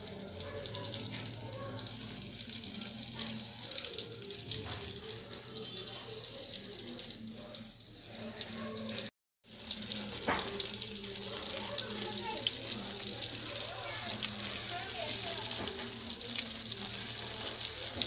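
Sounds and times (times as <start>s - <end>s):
water spraying from garden hose: 0.0s - 18.0s.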